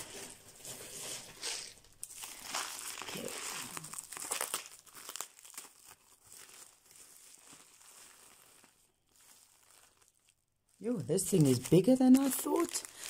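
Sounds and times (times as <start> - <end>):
plastic mailer crinkling: 0.0 - 13.0.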